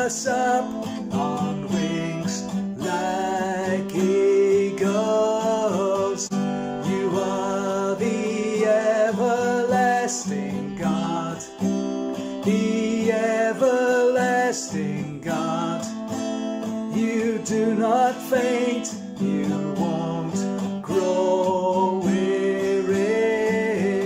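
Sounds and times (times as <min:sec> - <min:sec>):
man singing: 0:00.0 - 0:16.1, 0:16.8 - 0:24.0
strummed acoustic guitar: 0:00.0 - 0:24.0.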